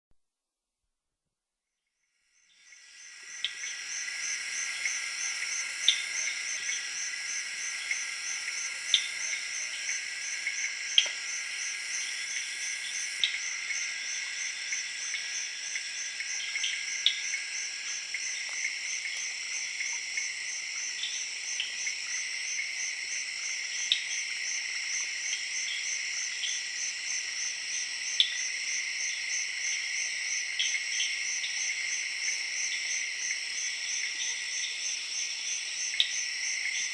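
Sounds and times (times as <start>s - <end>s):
high trilling of frogs and crickets: 2.1s - 36.9s.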